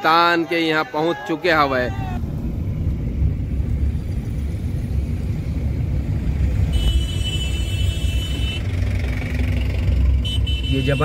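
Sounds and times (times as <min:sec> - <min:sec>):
car driving low rumble: 0:01.8 - 0:10.8.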